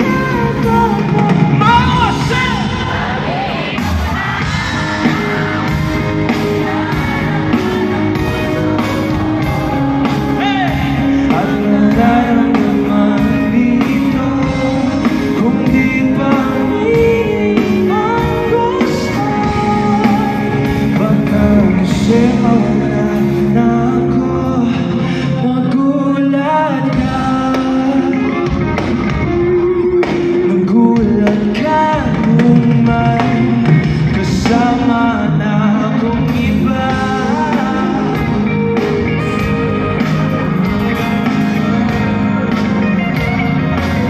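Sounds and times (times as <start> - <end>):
live pop band with singing: 0.0 - 44.0.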